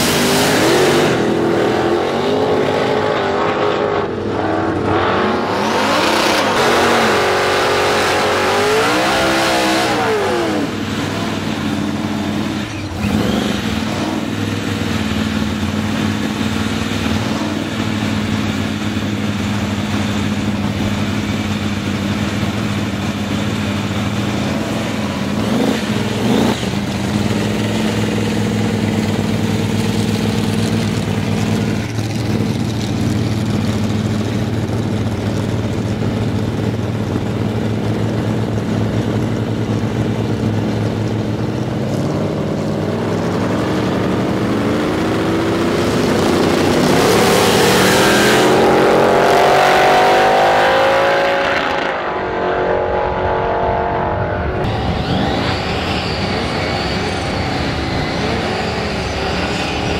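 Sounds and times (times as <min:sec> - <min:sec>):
drag racing engine revving: 0:00.0 - 0:59.9.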